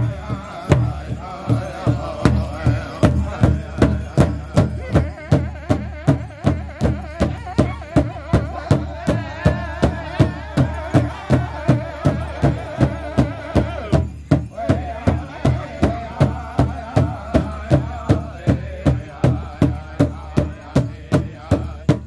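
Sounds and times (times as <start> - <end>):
big drum beating: 0.0 - 22.0
singers in unison: 0.0 - 22.0.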